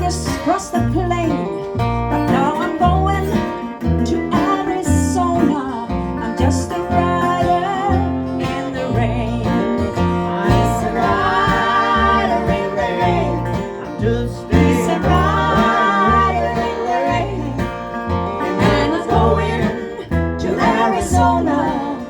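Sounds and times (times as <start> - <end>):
banjo: 0.0 - 22.0
double bass notes: 0.0 - 22.0
guitar: 0.0 - 22.0.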